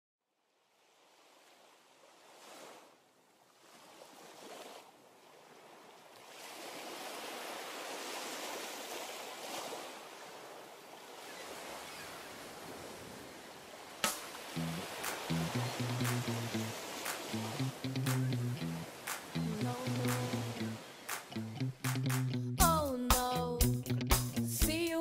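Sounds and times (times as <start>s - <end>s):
small waves breaking on sand: 0.5s - 21.4s.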